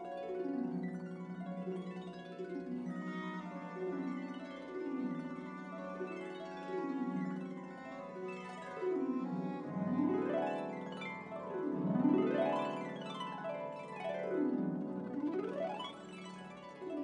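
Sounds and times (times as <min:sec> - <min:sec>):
orchestra bowed strings: 0:00.0 - 0:17.0
harp glissandos: 0:01.3 - 0:17.0.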